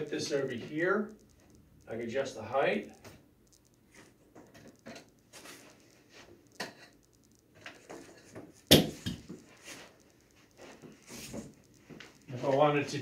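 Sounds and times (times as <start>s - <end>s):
small clicks taps and rustles: 0.0s - 13.0s.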